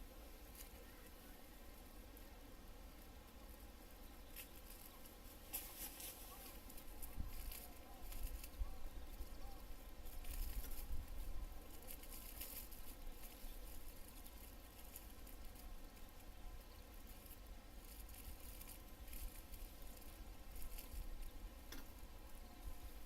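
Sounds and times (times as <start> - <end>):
rustling and crackling: 0.0 - 23.0.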